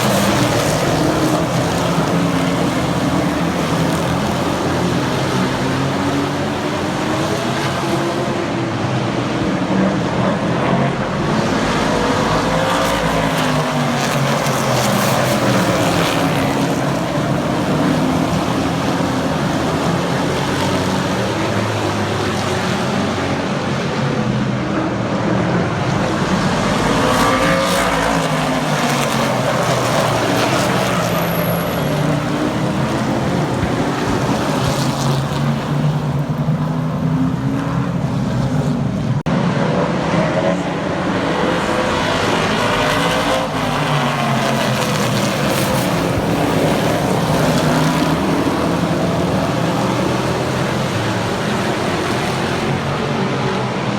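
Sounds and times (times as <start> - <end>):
racing truck engines: 0.0 - 53.9.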